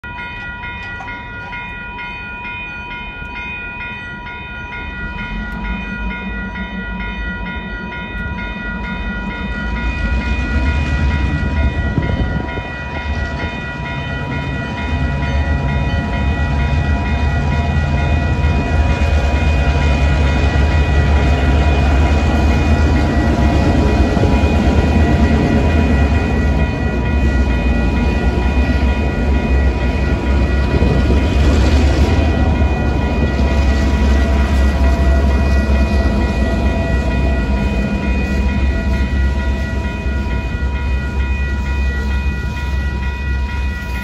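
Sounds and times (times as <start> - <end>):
crossing warning bell ringing: 0.0 - 44.0
diesel locomotives passing: 0.0 - 44.0.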